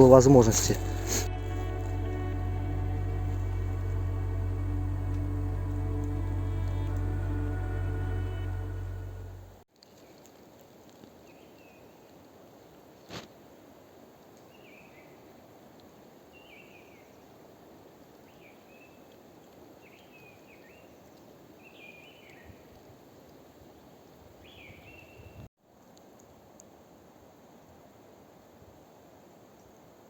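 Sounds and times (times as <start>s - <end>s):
faint forest ambience: 0.0s - 30.0s.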